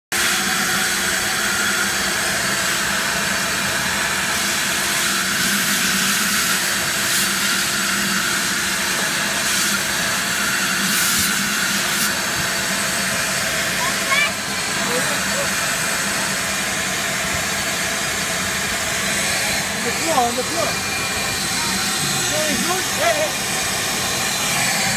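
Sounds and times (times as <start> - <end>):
shop vacuum running: 0.1 - 24.9.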